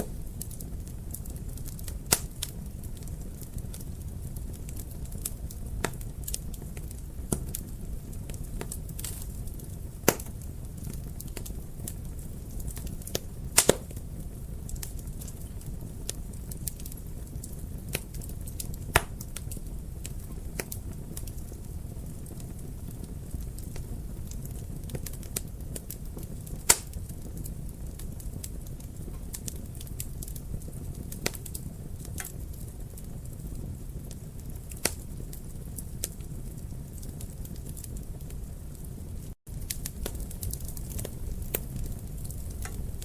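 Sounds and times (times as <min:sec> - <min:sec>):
fire flames rumbling: 0:00.0 - 0:43.0
wood fire pops and snaps: 0:00.0 - 0:43.0.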